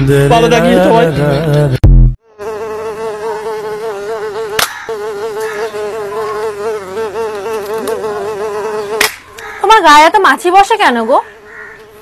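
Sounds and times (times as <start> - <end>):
housefly buzzing: 0.6 - 12.0.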